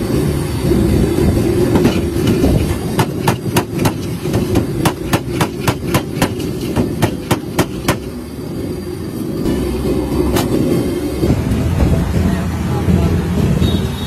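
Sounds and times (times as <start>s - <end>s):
low rumble: 0.0s - 13.7s.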